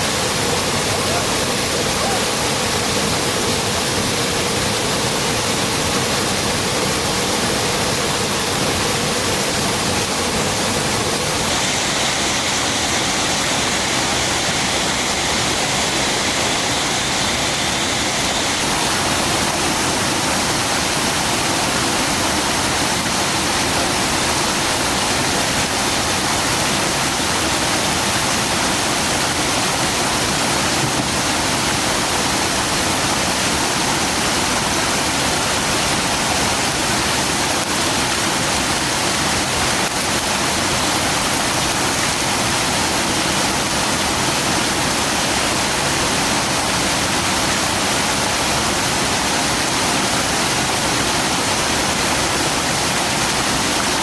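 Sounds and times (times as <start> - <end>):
water rushing down waterfall: 0.0 - 54.0.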